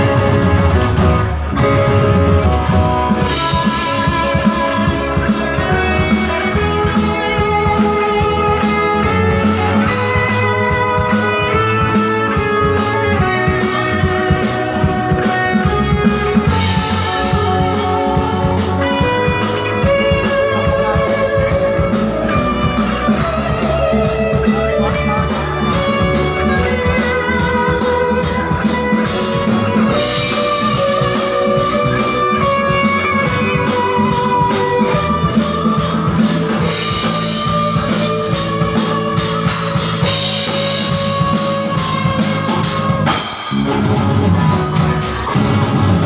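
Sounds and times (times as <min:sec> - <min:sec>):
drum kit steady beat: 0:00.0 - 0:46.0
keyboard playing: 0:00.0 - 0:46.0.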